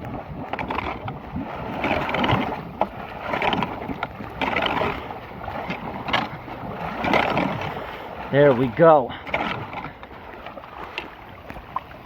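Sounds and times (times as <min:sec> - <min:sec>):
water rushing into storm drain: 0:00.0 - 0:12.0.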